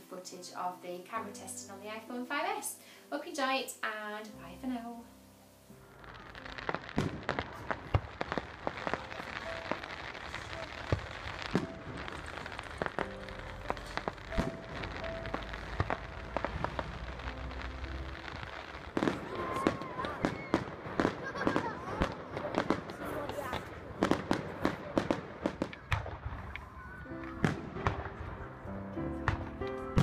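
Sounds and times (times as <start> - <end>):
fireworks bangs and crackles: 5.9 - 30.0.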